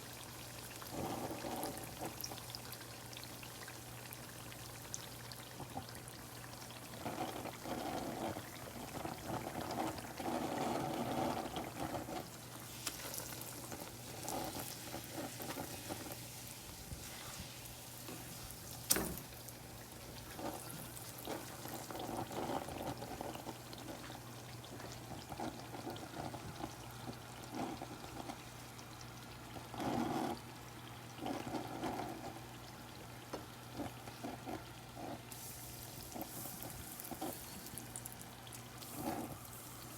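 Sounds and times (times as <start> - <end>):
hot oil bubbling and sizzling: 0.0 - 39.9.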